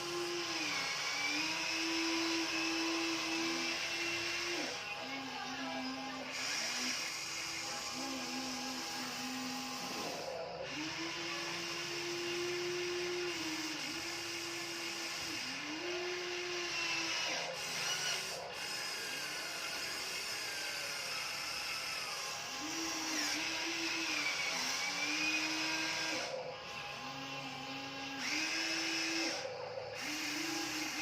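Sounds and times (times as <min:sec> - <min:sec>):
toy truck motor whining: 0:00.0 - 0:31.0.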